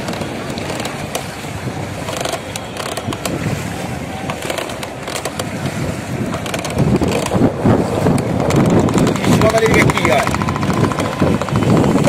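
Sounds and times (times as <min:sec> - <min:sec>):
knocks on boat: 0:00.0 - 0:12.0
water lapping around boat: 0:00.0 - 0:12.0
wind on microphone: 0:00.0 - 0:12.0.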